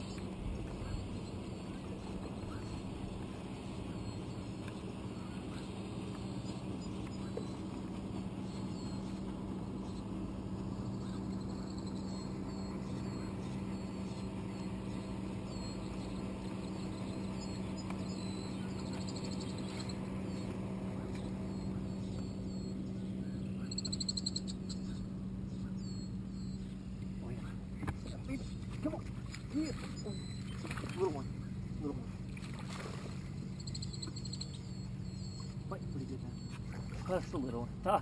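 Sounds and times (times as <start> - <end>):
electric trolling motor hum: 0.0 - 38.0.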